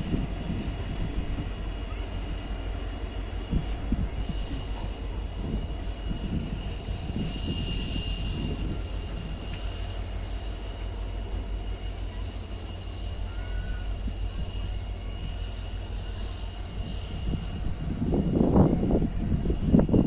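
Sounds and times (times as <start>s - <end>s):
faint high whine: 0.0s - 20.0s
train rumbling on track: 0.0s - 20.0s.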